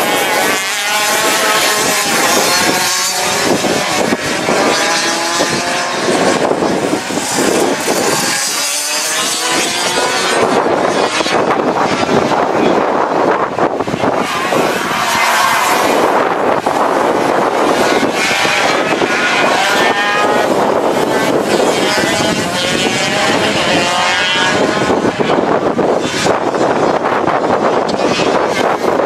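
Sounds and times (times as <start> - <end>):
racing kart engines revving: 0.0 - 29.0.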